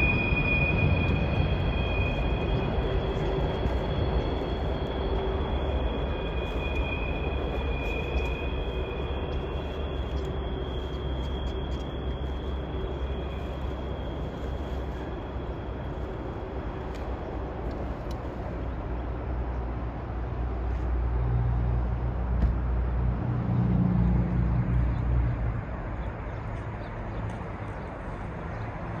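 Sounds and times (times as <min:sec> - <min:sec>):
engine drone: 0:00.0 - 0:29.0
rumble of passing vehicles: 0:00.0 - 0:29.0.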